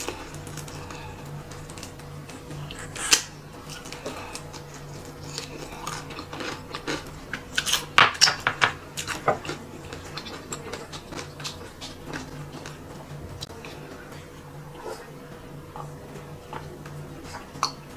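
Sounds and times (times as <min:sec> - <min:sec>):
chewing crispy chicken: 0:00.0 - 0:08.0, 0:08.8 - 0:17.9.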